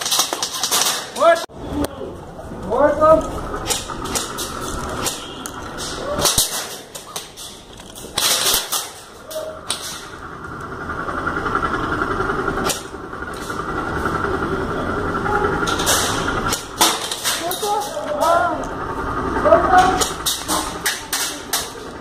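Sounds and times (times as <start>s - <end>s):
steady whirring hum: 0.1s - 22.0s.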